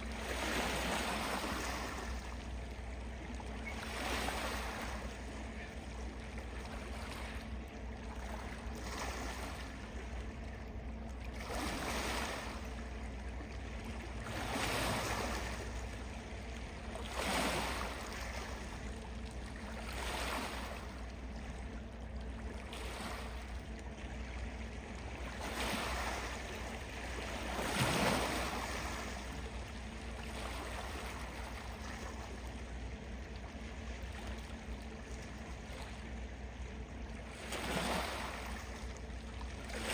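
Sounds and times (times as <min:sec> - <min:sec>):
small waves washing in: 0:00.0 - 0:10.5, 0:11.2 - 0:36.2, 0:37.1 - 0:39.9.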